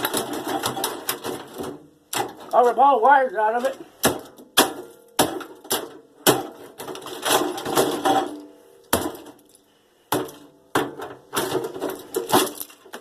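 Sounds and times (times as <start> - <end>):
plastic parts snapping and cracking: 0.0 - 2.7, 4.0 - 13.0
crackling and scraping: 0.0 - 13.0.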